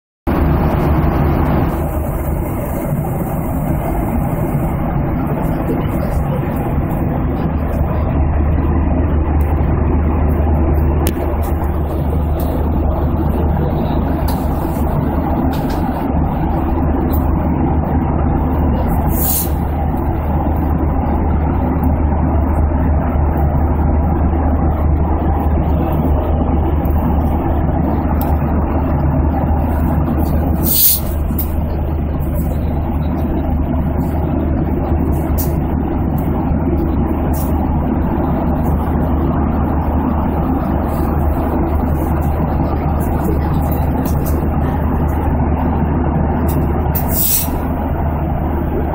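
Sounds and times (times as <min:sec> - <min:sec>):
airplane cabin engine drone: 0:00.3 - 0:48.9.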